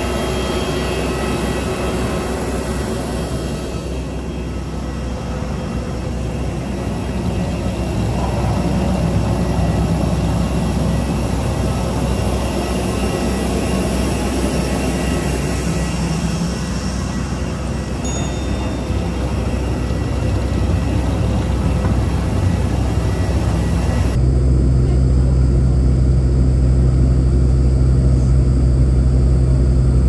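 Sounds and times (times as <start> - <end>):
aircraft engines running: 0.0 - 30.0
faint high whine: 0.0 - 30.0
ground vehicles running: 0.0 - 30.0.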